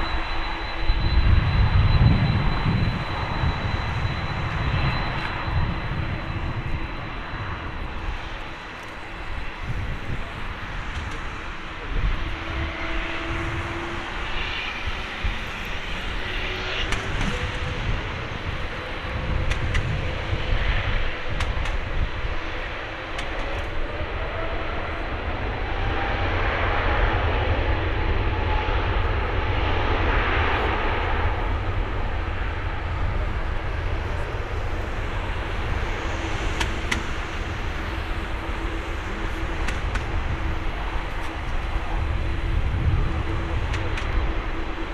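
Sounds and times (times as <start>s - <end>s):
jet engines spooling up: 0.0s - 44.9s.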